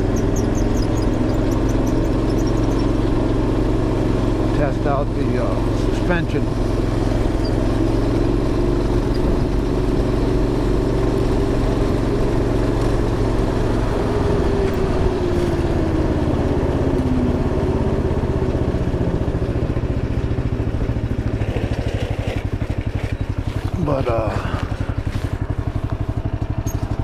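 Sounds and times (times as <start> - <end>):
go-kart engine running: 0.0 - 27.0.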